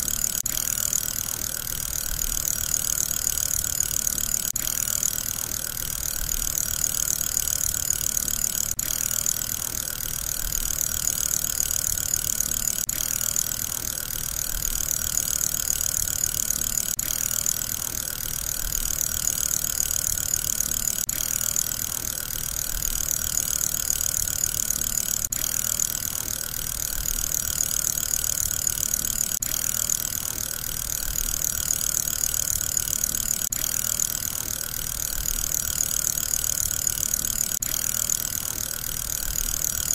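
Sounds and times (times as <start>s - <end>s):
fidget spinner whirring: 0.0s - 39.9s.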